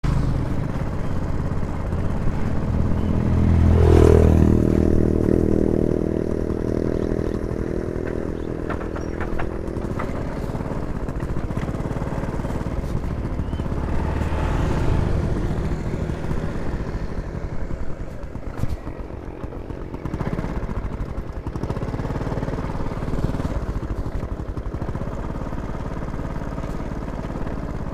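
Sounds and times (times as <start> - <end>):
vehicles passing by: 0.0 - 27.9.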